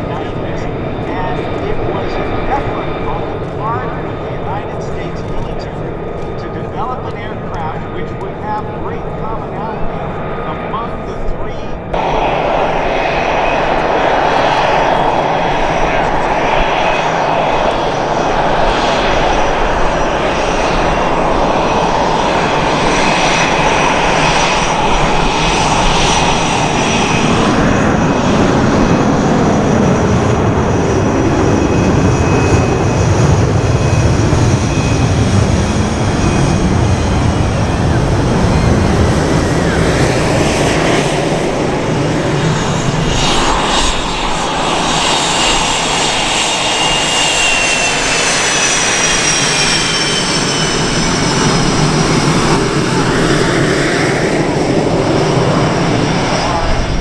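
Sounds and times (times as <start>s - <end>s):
deep jet roar: 0.0s - 57.0s
jet engine whine: 0.0s - 57.0s
jet taking off on afterburner: 0.0s - 57.0s.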